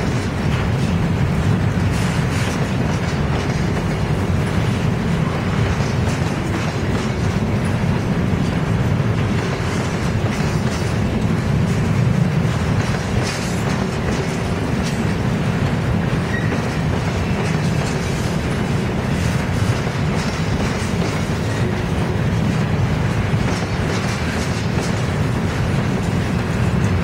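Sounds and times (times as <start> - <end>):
train wheels rumbling on rails: 0.0 - 27.0
wheels clicking over rail joints: 0.0 - 27.0.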